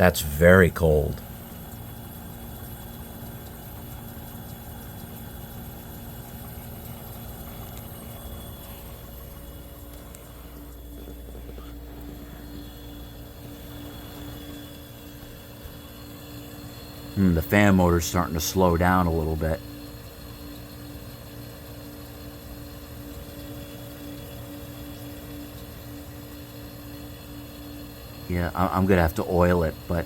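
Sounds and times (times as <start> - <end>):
dehumidifier humming: 0.0 - 30.0.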